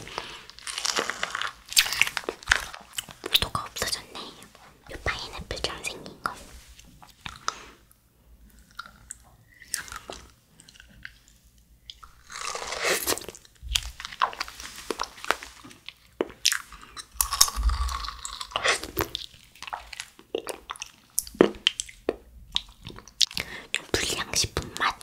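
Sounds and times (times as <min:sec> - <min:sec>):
crunching and chewing jelly: 0:00.0 - 0:04.8, 0:08.4 - 0:25.0.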